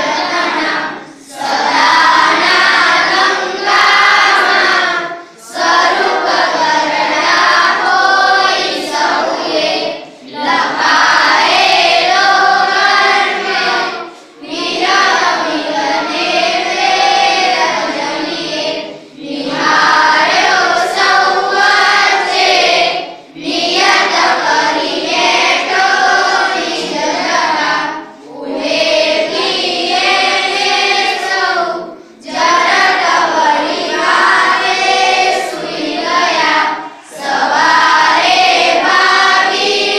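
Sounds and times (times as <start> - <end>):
children singing in unison: 0.0 - 39.9.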